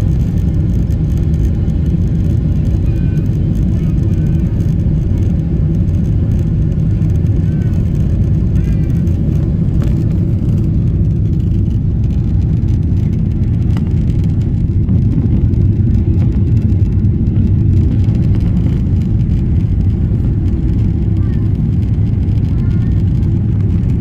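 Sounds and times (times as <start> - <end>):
jet engines rumbling in cabin: 0.0 - 24.0.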